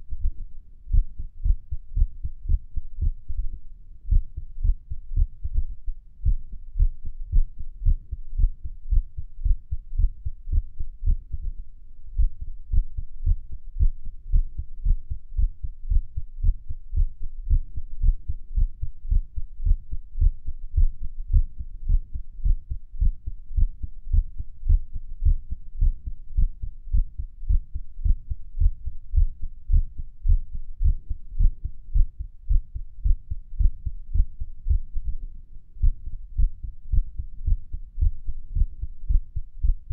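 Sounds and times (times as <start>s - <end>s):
heartbeat thumps: 0.1s - 39.9s.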